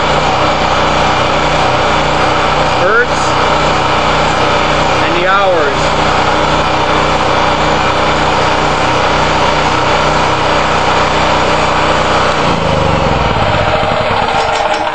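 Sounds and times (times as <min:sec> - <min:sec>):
generator engine running: 0:00.0 - 0:14.9.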